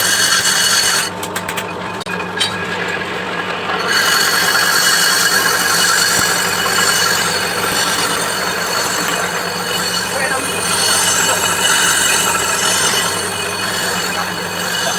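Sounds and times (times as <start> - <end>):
lathe tool scraping metal: 0.0 - 1.2, 3.7 - 14.9.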